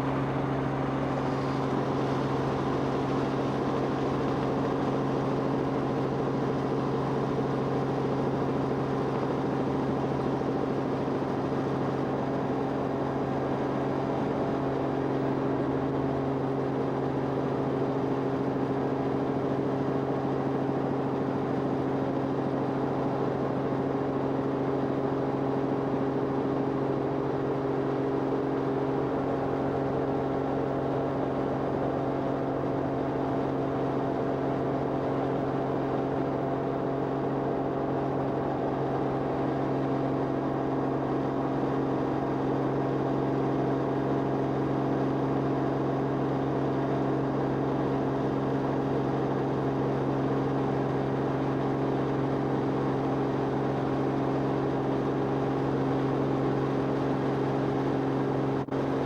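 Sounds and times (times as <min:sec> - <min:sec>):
aircraft engine drone in cabin: 0:00.0 - 0:59.0.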